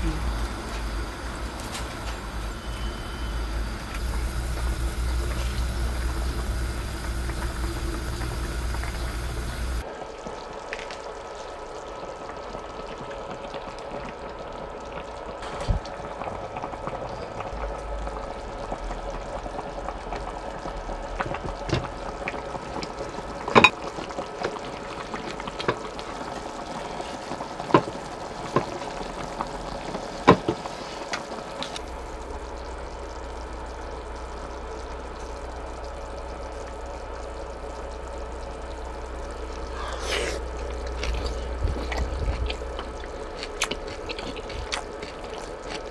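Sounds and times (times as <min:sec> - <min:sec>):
food hissing and bubbling in pot: 0:00.0 - 0:45.9.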